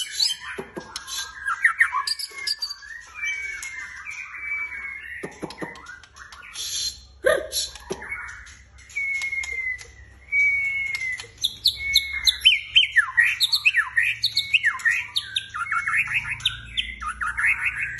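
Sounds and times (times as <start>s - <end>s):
bird singing: 0.0s - 17.9s.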